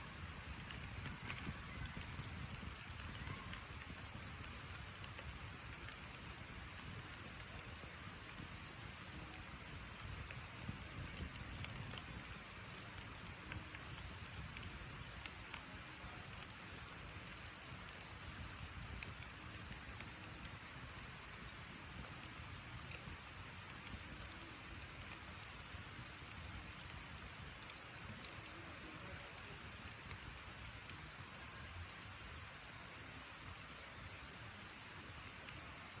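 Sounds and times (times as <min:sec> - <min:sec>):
fire hissing: 0:00.0 - 0:36.0
wood fire crackling and popping: 0:00.0 - 0:36.0.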